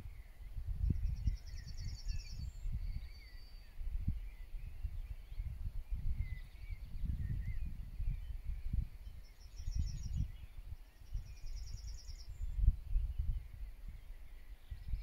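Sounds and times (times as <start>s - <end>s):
songbirds singing: 0.0s - 15.0s
wind buffeting microphone: 0.0s - 15.0s.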